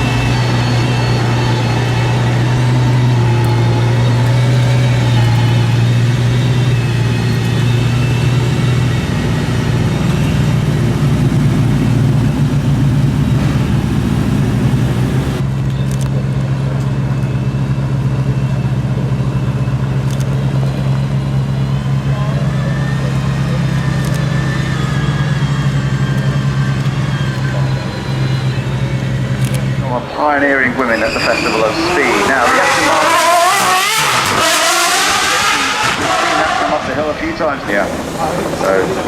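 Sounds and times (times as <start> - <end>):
car engine running at low revs: 0.0 - 29.9, 31.5 - 39.0.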